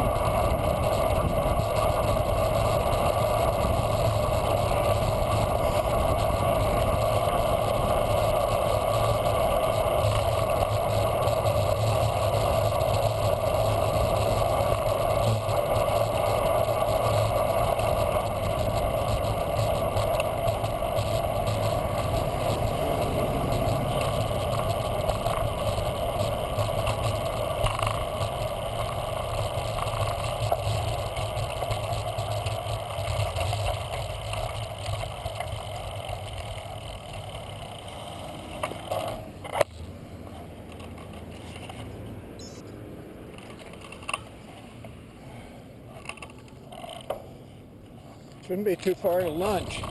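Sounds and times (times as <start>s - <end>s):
bicycle tyre noise: 0.0s - 49.9s.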